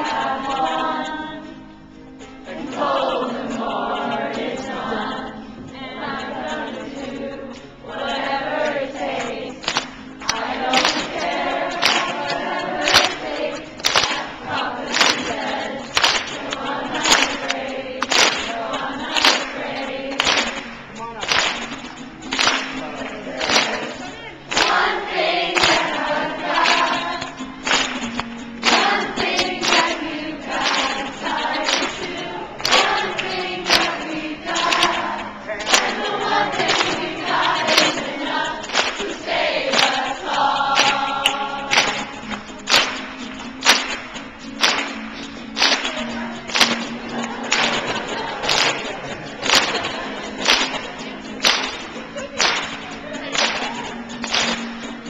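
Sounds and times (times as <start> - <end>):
crowd singing along: 0.0 - 20.9, 22.3 - 42.9, 43.6 - 55.0
acoustic guitar strumming: 0.0 - 55.0.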